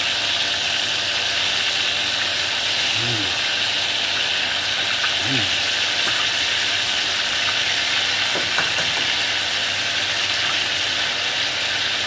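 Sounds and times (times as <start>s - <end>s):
egg sizzling in butter: 0.0s - 12.0s.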